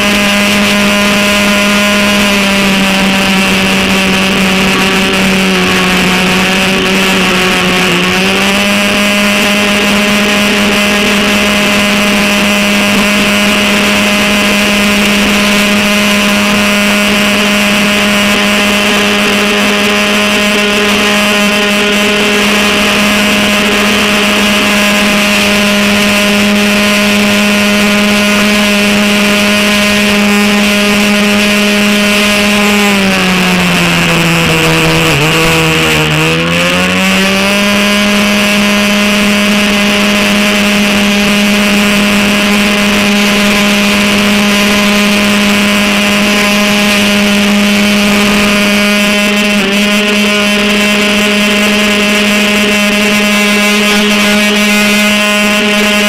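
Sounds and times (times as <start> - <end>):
airboat engine and propeller running: 0.0 - 56.0.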